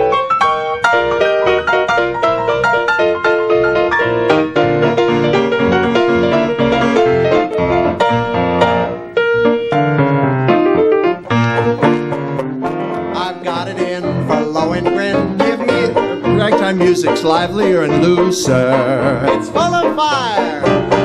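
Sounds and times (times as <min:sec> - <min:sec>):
ragtime piano: 0:00.0 - 0:21.0
upright string bass: 0:03.4 - 0:21.0.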